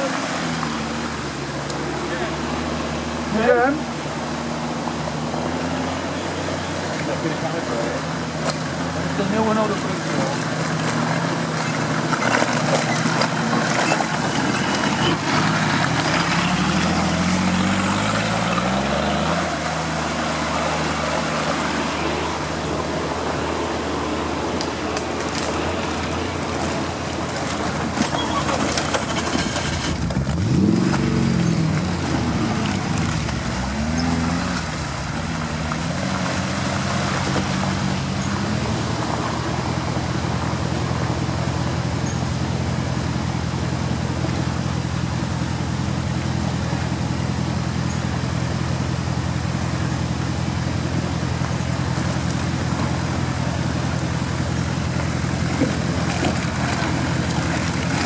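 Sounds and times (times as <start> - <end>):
off-road engine revving: 0.0 - 58.0.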